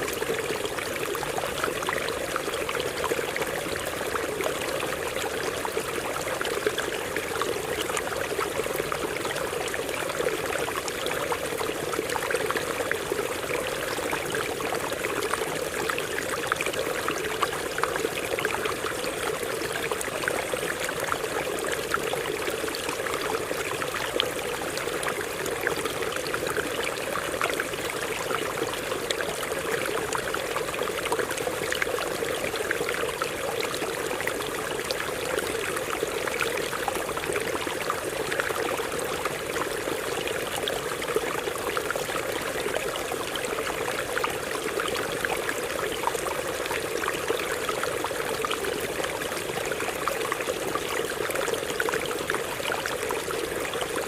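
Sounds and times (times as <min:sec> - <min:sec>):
stream water running over rocks: 0:00.0 - 0:54.0.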